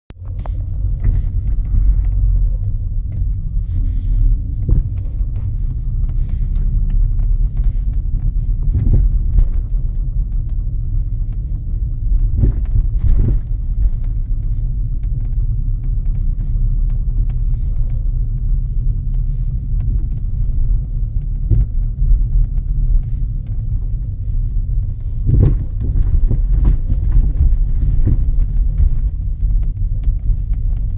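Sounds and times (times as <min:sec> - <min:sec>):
car rumbling on the move: 0:00.1 - 0:30.9.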